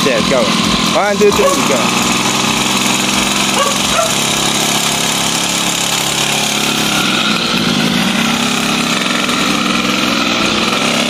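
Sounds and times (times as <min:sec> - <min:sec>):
dirt bike engine pulling away: 0:00.0 - 0:11.0.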